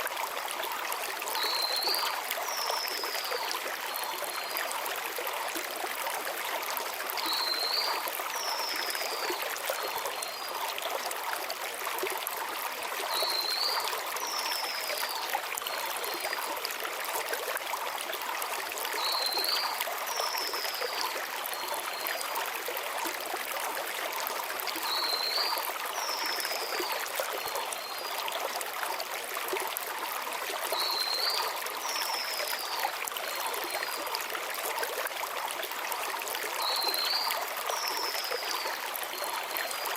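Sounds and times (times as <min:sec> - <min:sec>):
mountain stream flowing over stones: 0:00.0 - 0:39.9.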